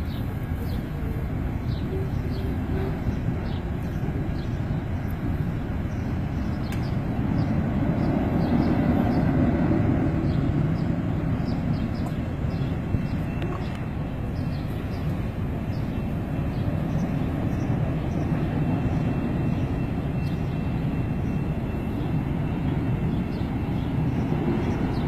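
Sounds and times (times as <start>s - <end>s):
freight train rumble: 0.0s - 25.0s.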